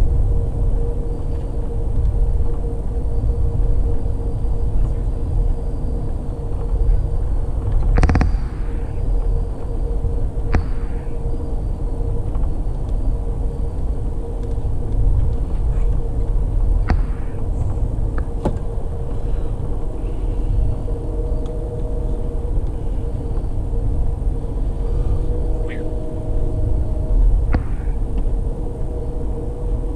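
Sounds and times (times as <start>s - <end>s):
faint constant hum: 0.0s - 29.9s
train rumbling on track: 0.0s - 29.9s.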